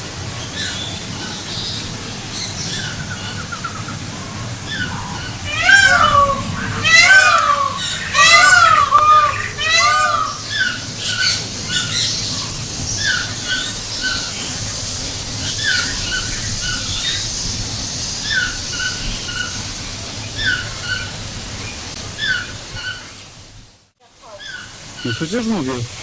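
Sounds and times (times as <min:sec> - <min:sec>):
background hiss: 0:00.0 - 0:26.0
bird chirping: 0:00.4 - 0:23.0.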